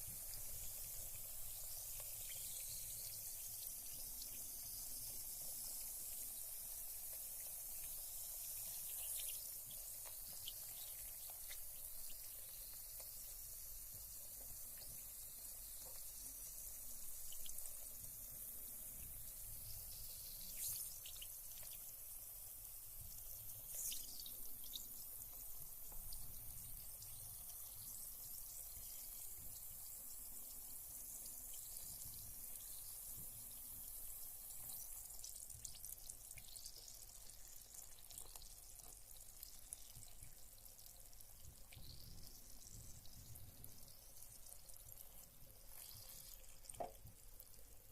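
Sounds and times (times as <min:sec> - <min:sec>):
bath bomb fizzing: 0:00.0 - 0:47.9
small water drips: 0:00.0 - 0:47.9.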